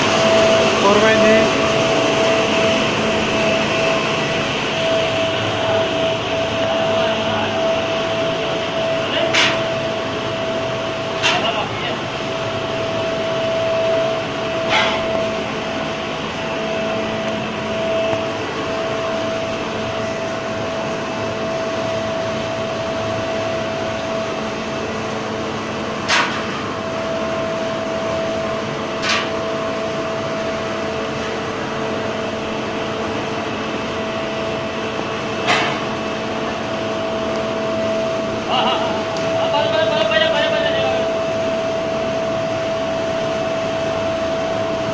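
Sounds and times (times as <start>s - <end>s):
air blower drone with whine: 0.0s - 44.9s.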